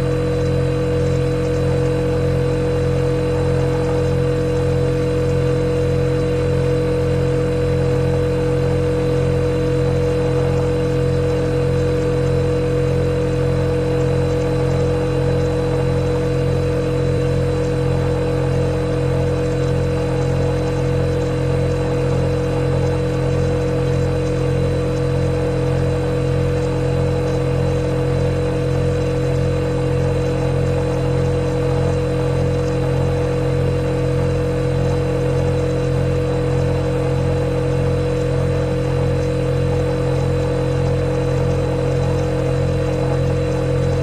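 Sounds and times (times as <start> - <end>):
refrigerator humming: 0.0 - 44.0.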